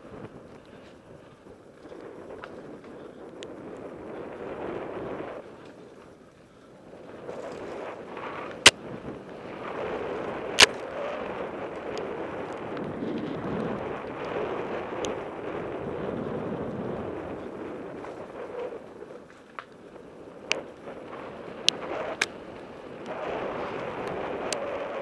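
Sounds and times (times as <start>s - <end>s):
bike tyres rumbling on gravel: 0.0s - 25.0s.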